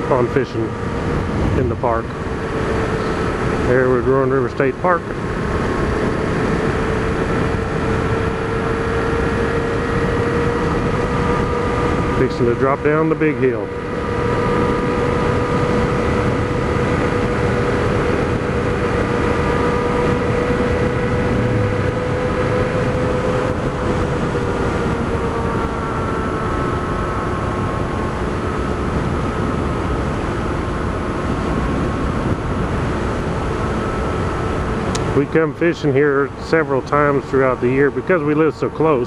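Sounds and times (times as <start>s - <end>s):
motorcycle engine running: 0.0s - 39.0s
wind rush: 0.0s - 39.0s.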